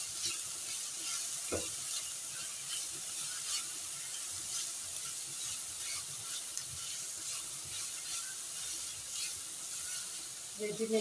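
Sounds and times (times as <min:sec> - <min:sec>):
food sizzling in a pan: 0:00.0 - 0:11.0
spatula scraping a pan: 0:00.0 - 0:11.0.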